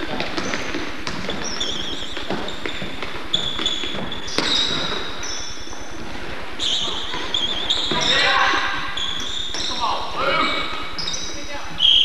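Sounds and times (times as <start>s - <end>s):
basketball bouncing on wood floor: 0.0s - 9.9s
sneakers squeaking: 0.0s - 12.0s.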